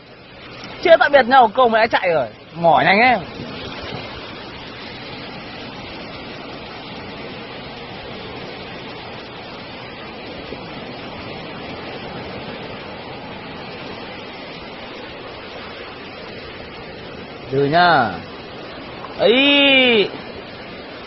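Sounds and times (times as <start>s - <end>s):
surf washing over sand: 0.0s - 21.0s.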